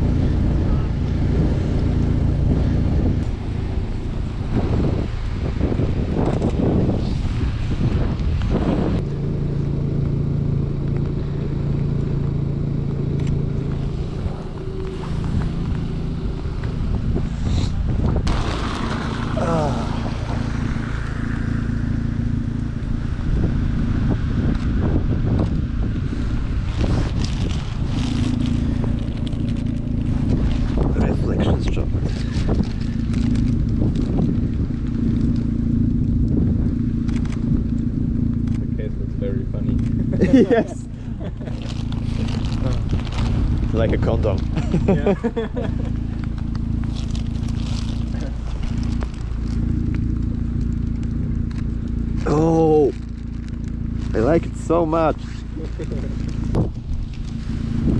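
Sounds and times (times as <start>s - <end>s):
wind noise on microphone: 0.0s - 9.4s, 13.4s - 38.8s, 39.6s - 57.9s
car engine running: 0.0s - 57.9s.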